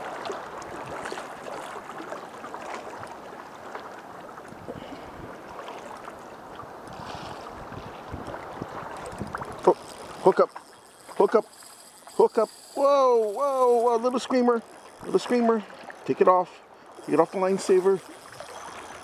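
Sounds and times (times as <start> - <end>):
small waves lapping against rocks: 0.0 - 19.0.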